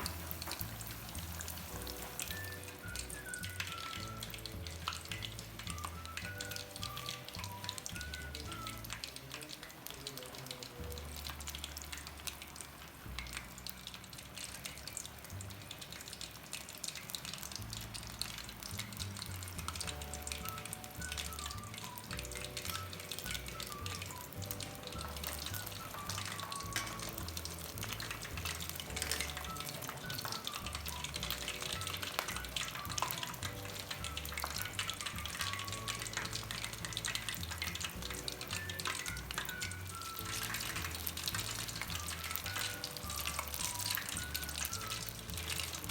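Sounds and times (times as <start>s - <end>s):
music with low bass notes: 0.0s - 9.0s, 10.8s - 12.2s, 17.5s - 45.9s
dense crackle of pops: 0.0s - 45.9s.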